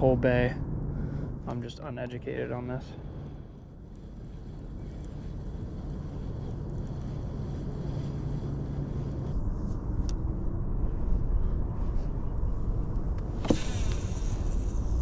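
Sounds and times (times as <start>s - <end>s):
distant engine drone: 0.0s - 15.0s.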